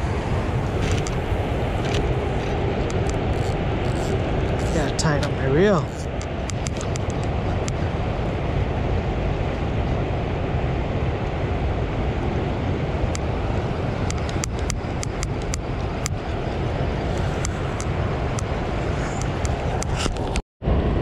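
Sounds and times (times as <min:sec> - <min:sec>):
river water roaring through dam: 0:00.0 - 0:21.0.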